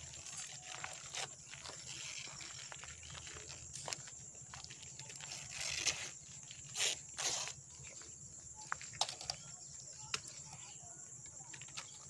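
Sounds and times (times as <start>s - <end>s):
leaves and plastic rustling: 0.0s - 12.0s.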